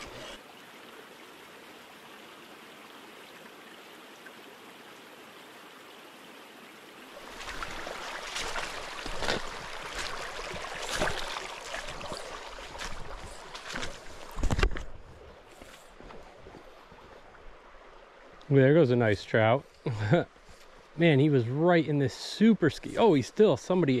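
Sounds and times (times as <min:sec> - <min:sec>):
creek water running over stones: 0:00.0 - 0:24.0.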